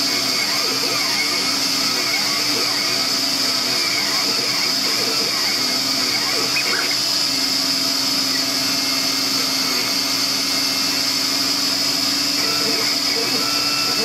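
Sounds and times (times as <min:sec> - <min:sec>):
machine motors humming: 0:00.0 - 0:14.0
vacuum table running: 0:00.0 - 0:14.0.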